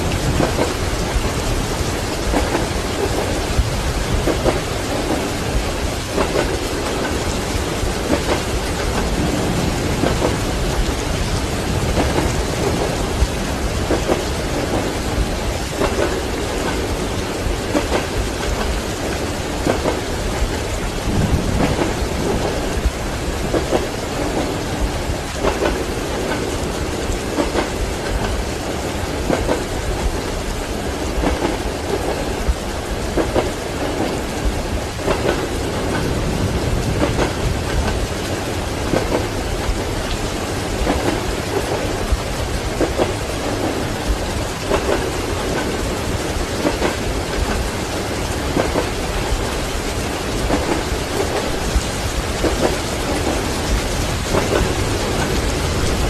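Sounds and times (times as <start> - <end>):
heavy rain: 0.0 - 56.0
low rolling thunder: 0.0 - 56.0
train wheels clacking over rail joints: 0.0 - 56.0.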